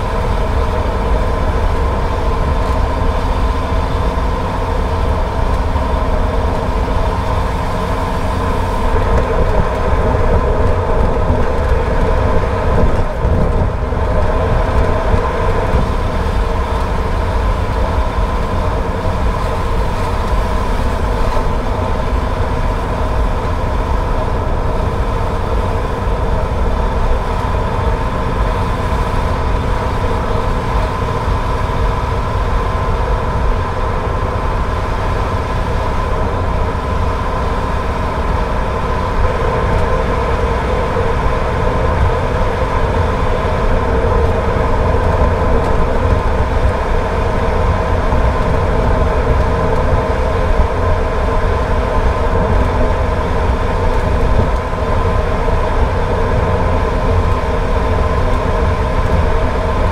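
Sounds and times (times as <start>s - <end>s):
car road rumble and engine drone: 0.0s - 59.9s.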